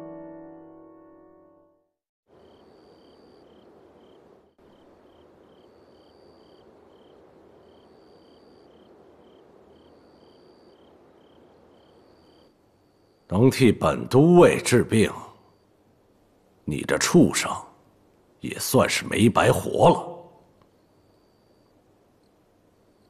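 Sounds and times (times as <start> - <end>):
high insect trill: 2.3 - 23.0
insects chirping: 2.3 - 23.0.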